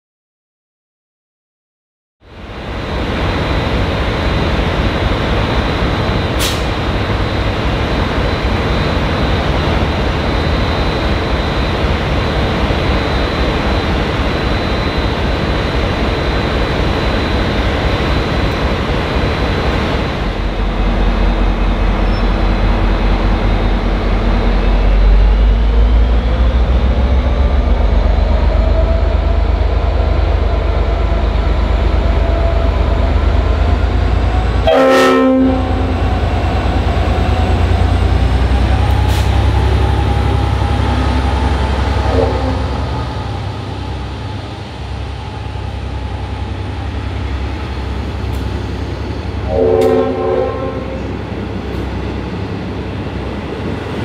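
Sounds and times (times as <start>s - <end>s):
locomotive rising whine: 2.2s - 54.0s
locomotive engine rumbling: 2.4s - 54.0s.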